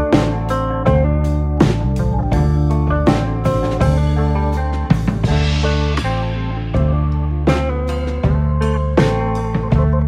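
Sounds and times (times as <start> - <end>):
instrumental music with guitar and drums: 0.0 - 10.0.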